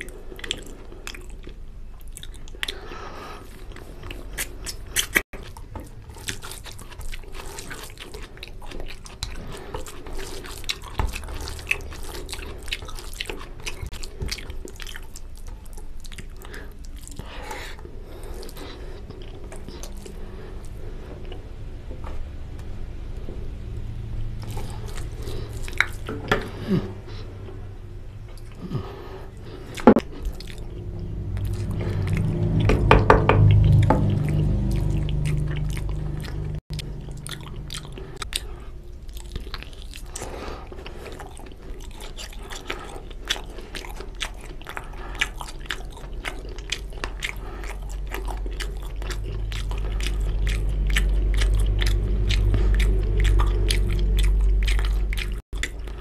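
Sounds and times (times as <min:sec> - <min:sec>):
close chewing with mouth clicks: 0:00.0 - 0:21.6, 0:24.2 - 0:27.6, 0:28.2 - 0:32.8, 0:33.5 - 0:56.0.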